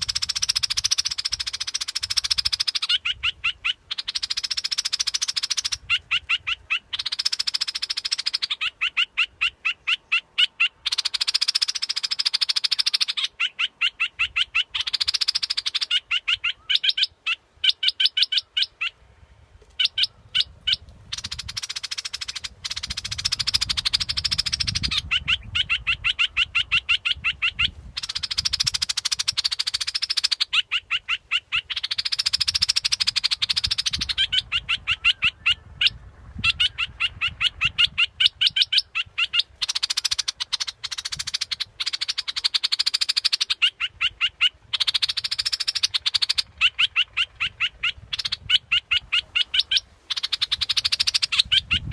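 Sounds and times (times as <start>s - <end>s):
recorded bird song chattering: 0.0s - 19.0s, 19.7s - 51.9s.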